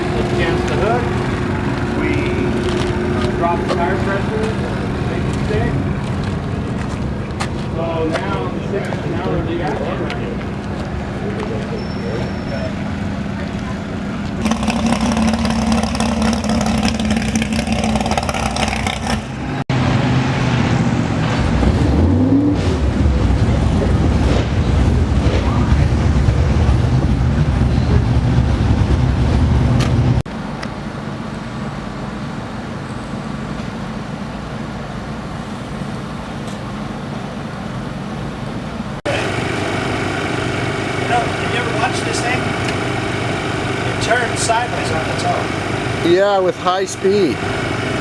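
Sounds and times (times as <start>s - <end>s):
track noise: 0.0s - 30.2s, 39.0s - 48.0s
drag race car engines: 0.0s - 48.0s.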